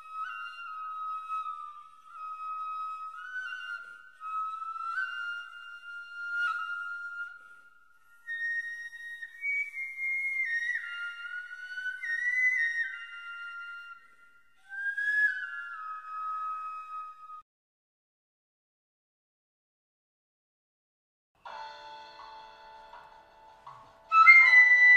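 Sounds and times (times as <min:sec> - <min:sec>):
bamboo flute melody: 0:00.0 - 0:17.5, 0:21.5 - 0:24.9.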